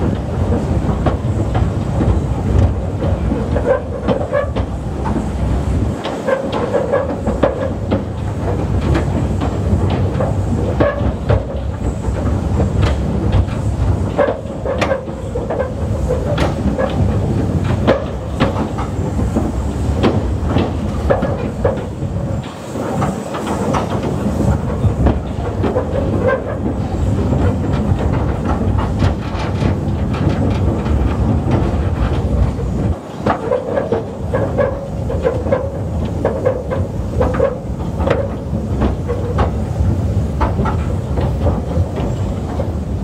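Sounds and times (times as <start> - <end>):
train rumbling on track: 0.0 - 43.0
wheels clacking on rail joints: 0.0 - 43.0.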